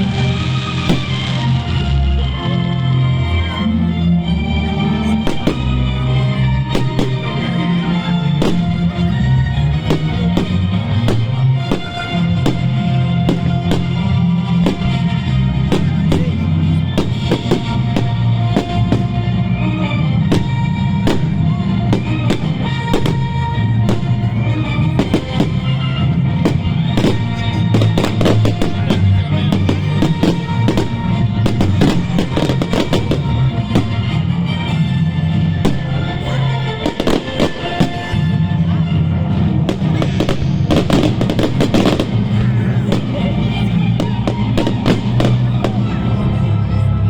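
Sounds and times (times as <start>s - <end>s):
fireworks bangs and crackles: 0.0s - 2.4s, 5.0s - 47.0s
loud music with heavy bass: 0.0s - 19.4s, 20.0s - 47.0s.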